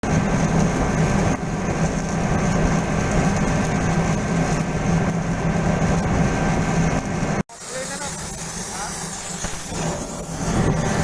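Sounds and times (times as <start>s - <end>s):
machinery drone with low hum: 0.0s - 11.0s.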